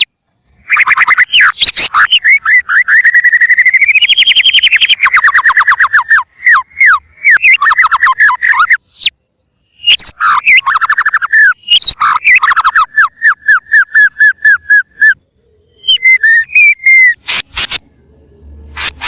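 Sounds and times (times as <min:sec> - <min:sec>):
bird singing whistled notes: 0:00.0 - 0:19.0.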